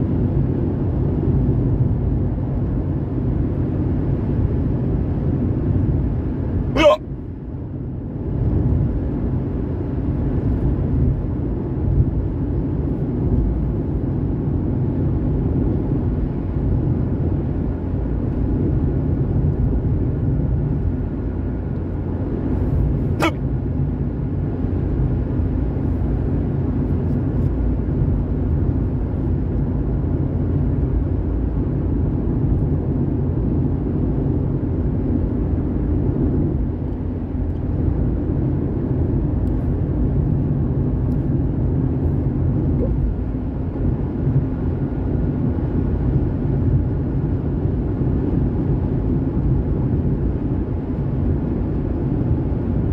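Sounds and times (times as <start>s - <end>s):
car cabin road and engine noise: 0.0s - 52.9s.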